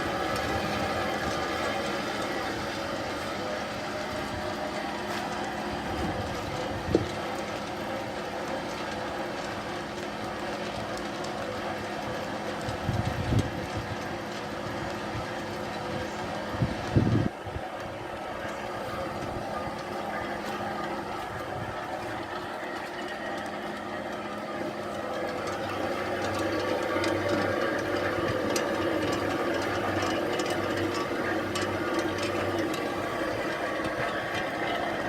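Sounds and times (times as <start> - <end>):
light mechanical ticking: 0.0 - 35.0
pellet mill humming: 0.0 - 35.0.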